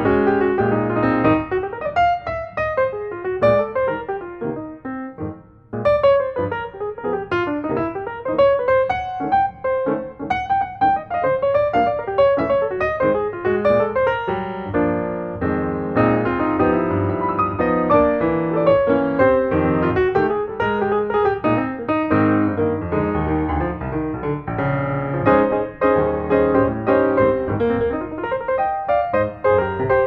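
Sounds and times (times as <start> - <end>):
piano notes and chords: 0.0 - 30.0.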